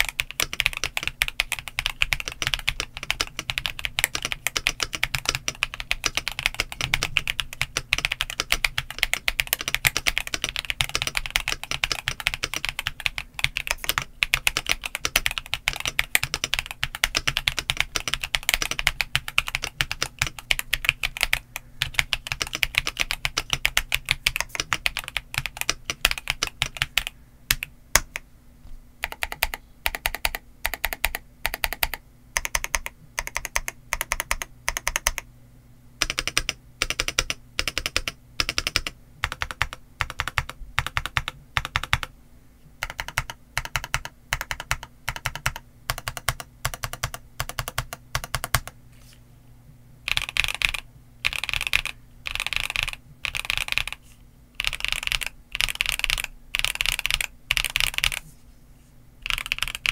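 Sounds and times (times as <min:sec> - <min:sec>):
mechanical keyboard typing: 0:00.0 - 0:28.2, 0:29.0 - 0:35.2, 0:36.0 - 0:42.1, 0:42.8 - 0:48.8, 0:50.1 - 0:54.0, 0:54.6 - 0:58.2, 0:59.2 - 0:59.9.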